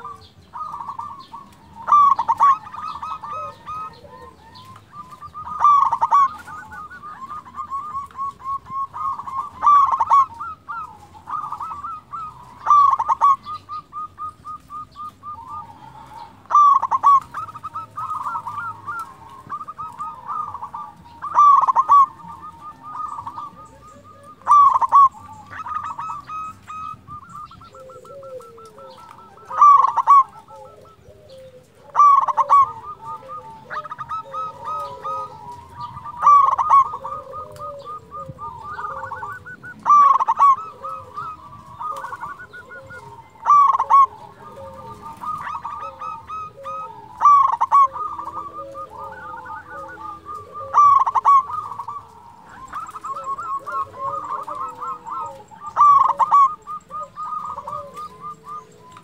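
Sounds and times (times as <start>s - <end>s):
dove rolling coo: 0.0s - 59.0s
lower-pitched cooing: 0.0s - 59.0s.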